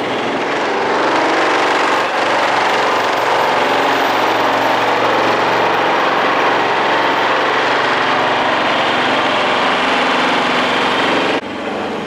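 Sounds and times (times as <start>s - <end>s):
vibratory pile hammer buzzing: 0.0s - 11.4s.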